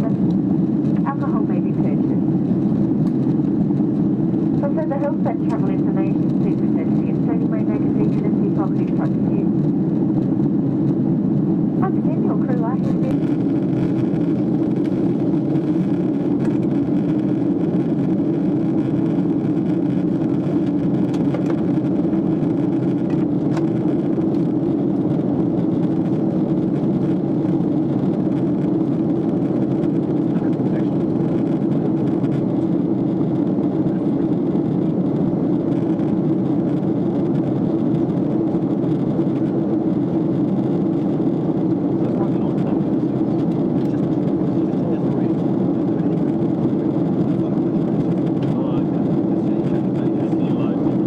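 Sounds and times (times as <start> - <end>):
airliner cabin drone: 0.0 - 51.0.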